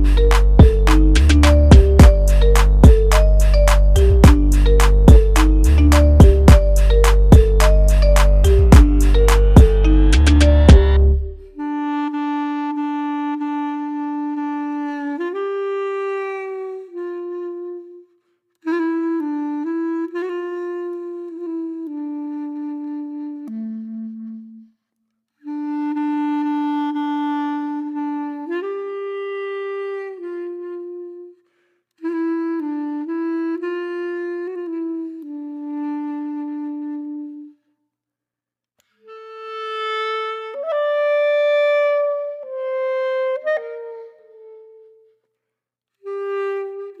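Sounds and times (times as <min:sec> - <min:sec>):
slow solo woodwind melody: 0:00.0 - 0:24.8, 0:25.4 - 0:37.7, 0:39.0 - 0:45.3, 0:46.0 - 0:47.0.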